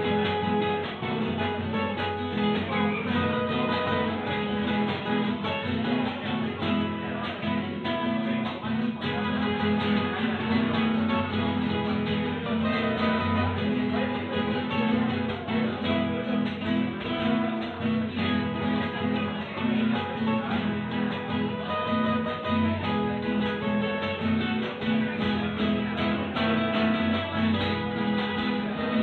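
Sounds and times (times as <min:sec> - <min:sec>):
acoustic guitar music: 0:00.0 - 0:29.0.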